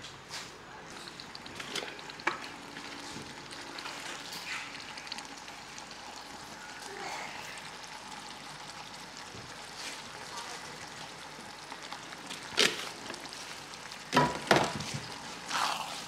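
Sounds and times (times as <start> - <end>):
chili paste sizzling in oil: 0.9 - 16.0.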